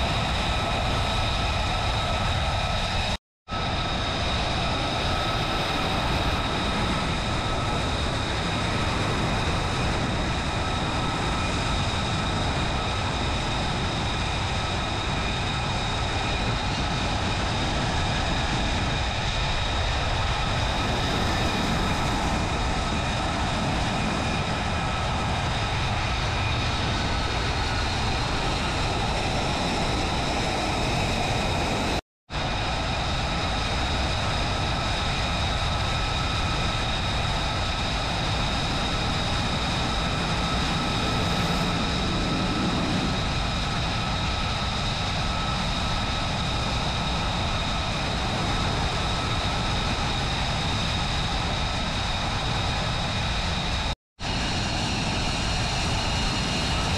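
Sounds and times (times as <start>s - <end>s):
jet engines running with whine: 0.0s - 56.9s.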